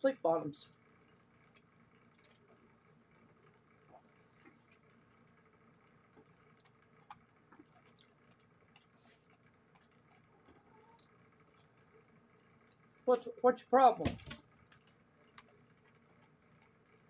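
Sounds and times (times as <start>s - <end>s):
quiet eating sounds: 0.8s - 13.2s, 14.4s - 17.0s.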